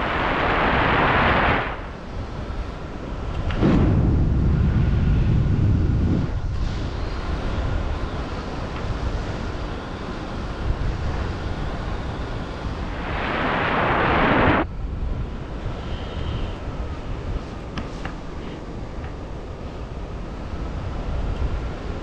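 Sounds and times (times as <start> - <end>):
loud wind hiss: 0.0 - 22.0
wind rumble on microphone: 0.0 - 22.0.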